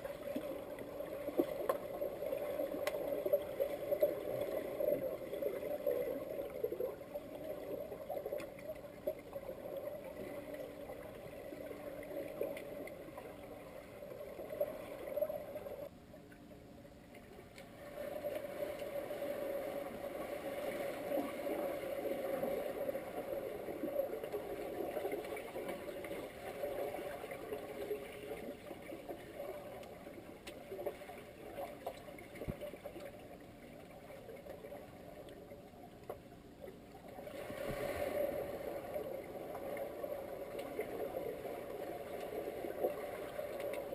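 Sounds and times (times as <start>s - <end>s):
swimmers churning water underwater: 0.0s - 15.9s, 17.2s - 43.9s
underwater bubbling: 0.0s - 43.9s.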